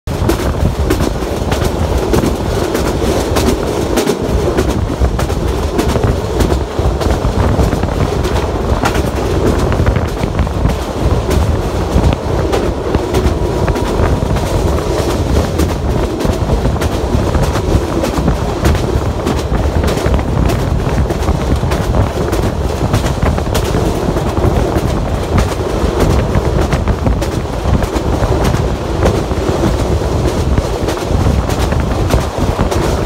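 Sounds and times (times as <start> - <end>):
train wheels rumbling on track: 0.0 - 33.0
wheels clicking over rail joints: 0.1 - 33.0.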